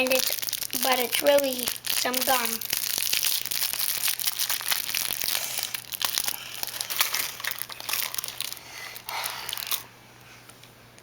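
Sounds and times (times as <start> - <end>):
candy wrapper crackling: 0.0 - 9.9.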